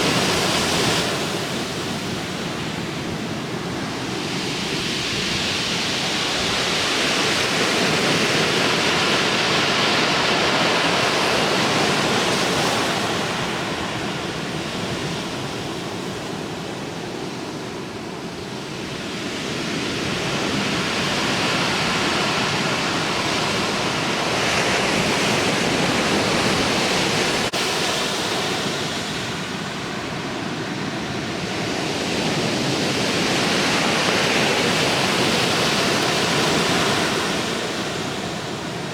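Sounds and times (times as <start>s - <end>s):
ocean surf breaking: 0.0s - 17.6s, 18.2s - 38.9s.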